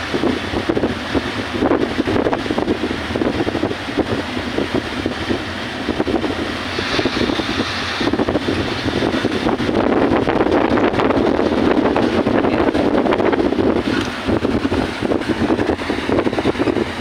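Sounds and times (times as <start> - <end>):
boat engine drone: 0.0 - 17.0
rush of boat wake: 0.0 - 17.0
wind buffeting microphone: 0.0 - 17.0.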